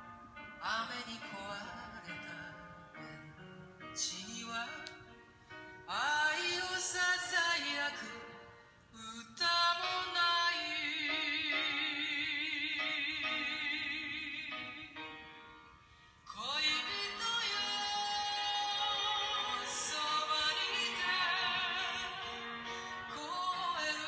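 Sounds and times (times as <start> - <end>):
woman singing a ballad: 0.6 - 5.2, 5.8 - 15.2, 16.3 - 24.0.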